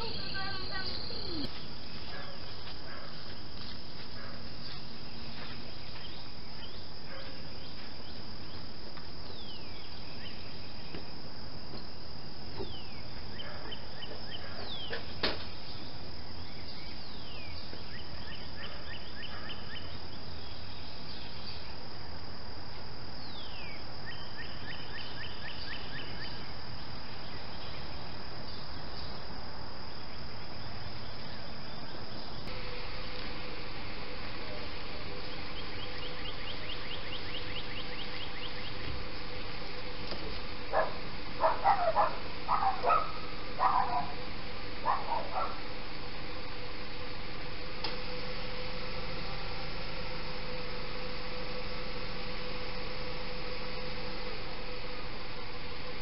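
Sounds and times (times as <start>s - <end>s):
birds chirping: 0.0s - 21.9s, 22.7s - 56.0s
steady high-pitched drone: 0.0s - 56.0s.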